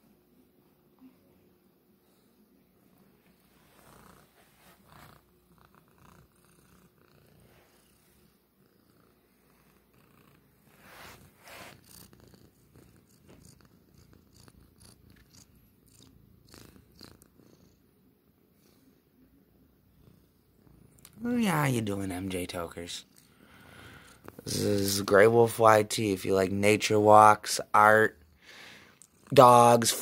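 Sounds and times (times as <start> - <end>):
cat purring: 1.0 - 26.3, 26.9 - 30.0.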